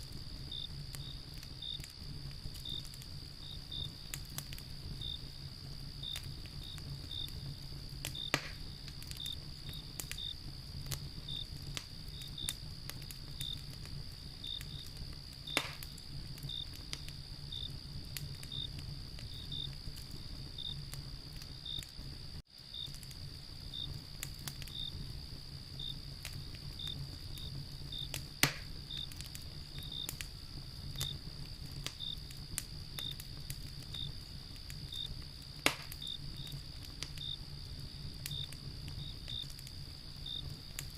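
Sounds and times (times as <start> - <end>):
crickets chirping: 0.0 - 40.9
high insect trill: 0.0 - 40.9
wood fire crackling: 0.0 - 40.9.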